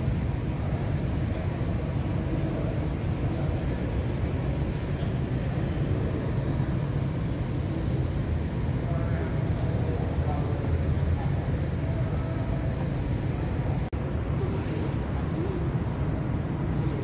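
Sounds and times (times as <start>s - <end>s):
air conditioning and fans droning: 0.0s - 17.0s.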